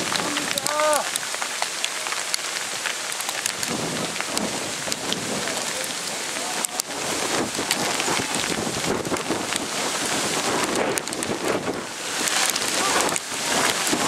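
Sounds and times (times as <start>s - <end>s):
footsteps on wet leaves: 0.0s - 14.0s
rain falling on woodland: 0.0s - 14.0s
wind buffeting microphone: 2.6s - 14.0s.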